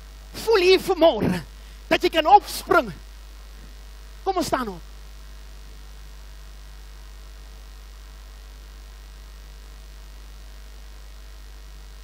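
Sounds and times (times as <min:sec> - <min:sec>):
faint hiss: 0:00.0 - 0:12.0
low electrical mains hum: 0:00.0 - 0:12.0.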